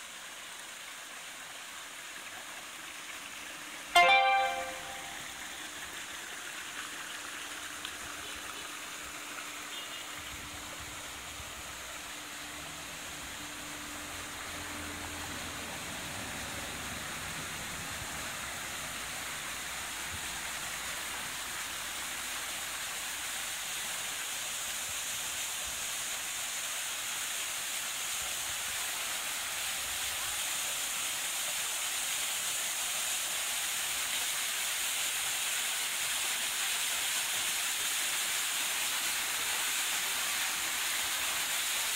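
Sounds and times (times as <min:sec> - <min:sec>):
waterfall splashing into pond: 0:00.0 - 0:41.9.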